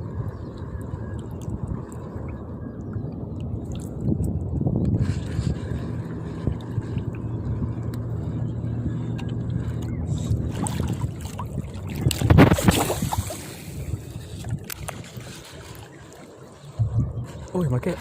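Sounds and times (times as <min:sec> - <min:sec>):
small boat motor humming: 0:00.0 - 0:18.0.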